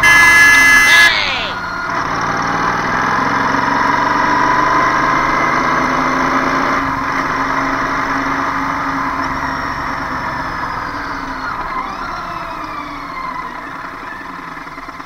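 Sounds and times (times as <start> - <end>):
road traffic: 0.0 - 15.0
vehicle engine running: 0.0 - 15.0.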